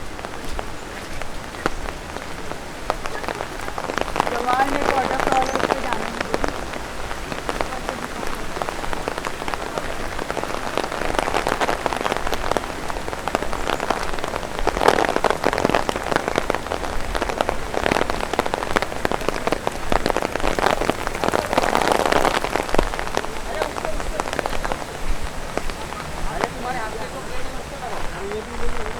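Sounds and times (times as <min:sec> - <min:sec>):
rain tapping on an umbrella: 0:00.0 - 0:28.9.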